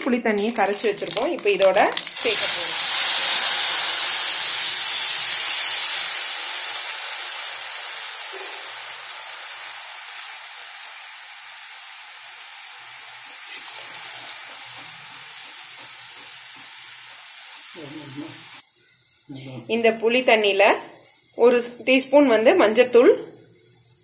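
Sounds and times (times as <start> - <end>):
liquid sizzling in hot oil: 0.4 - 24.0.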